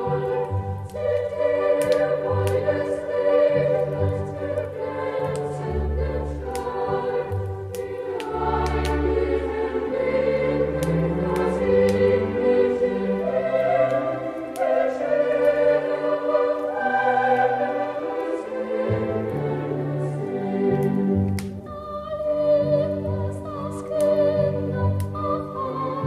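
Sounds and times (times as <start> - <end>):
choir singing: 0.0 - 26.0
deep slow accompaniment: 0.0 - 26.0
fireplace fire crackling: 0.0 - 26.0.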